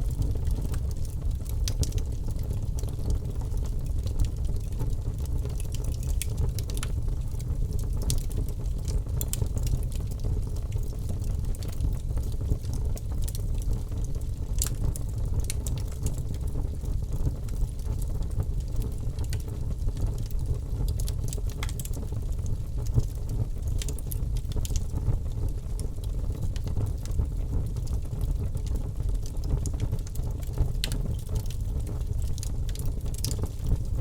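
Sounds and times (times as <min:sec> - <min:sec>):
fire burning in fireplace: 0:00.0 - 0:34.0
logs crackling and popping: 0:00.0 - 0:34.0.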